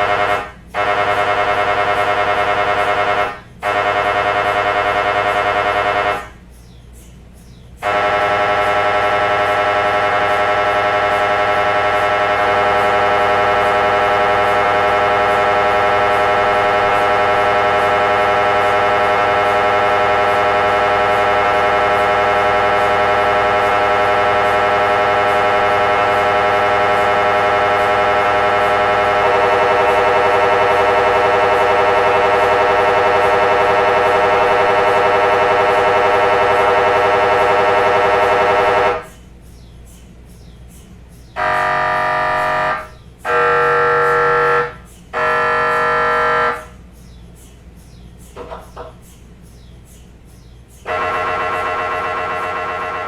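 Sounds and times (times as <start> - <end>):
mri scanner buzzing: 0.0 - 6.5, 7.8 - 39.2, 41.4 - 46.8, 50.8 - 53.0.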